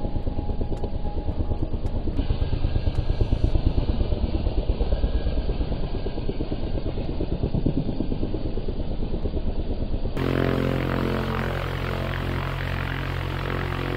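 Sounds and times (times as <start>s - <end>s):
light aircraft engine throbbing: 0.0s - 13.9s
steady engine hum: 0.0s - 13.9s.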